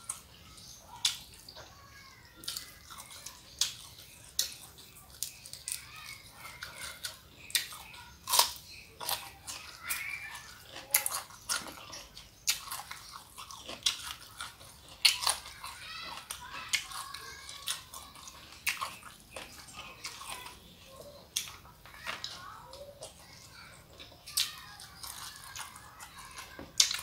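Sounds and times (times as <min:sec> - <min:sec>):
chewing with lip smacks: 0:02.4 - 0:27.0.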